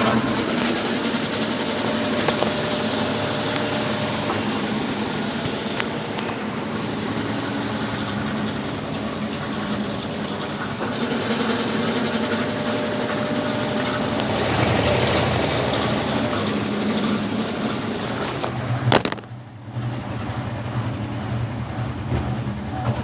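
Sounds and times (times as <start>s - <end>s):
washing machine churning: 0.0s - 23.0s.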